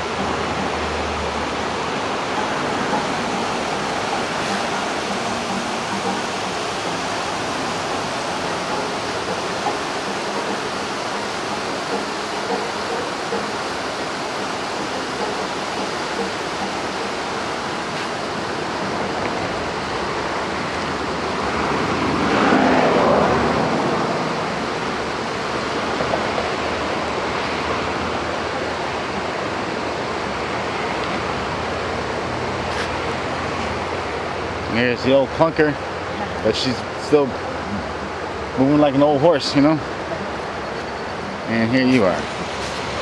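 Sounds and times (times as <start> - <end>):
rushing river water: 0.0 - 43.0.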